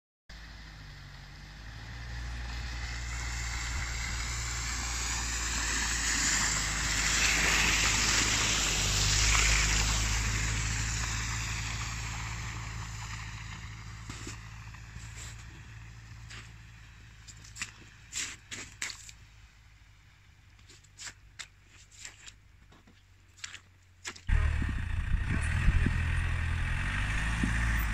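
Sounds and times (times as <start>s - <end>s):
car engine pulling uphill: 0.3s - 21.7s, 22.4s - 27.9s
tyres running through snow: 1.5s - 19.4s, 20.4s - 27.9s.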